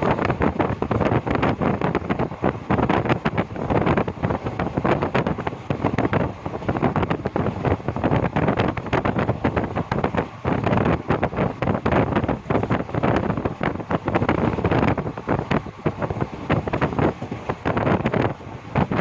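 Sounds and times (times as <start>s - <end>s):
train rattles and knocks: 0.0s - 19.0s
train wheels rumbling on track: 0.0s - 19.0s
wind buffeting microphone: 0.0s - 19.0s.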